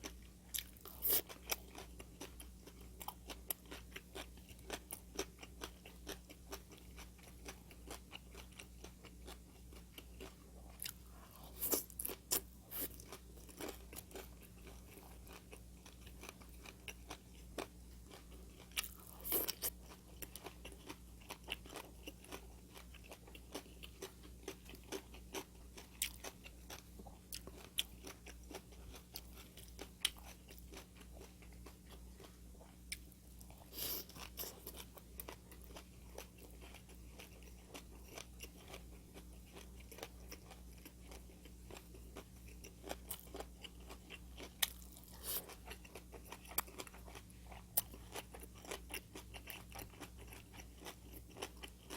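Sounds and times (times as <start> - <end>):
chewing crunchy food: 0.0 - 51.9
faint low hum: 0.0 - 51.9.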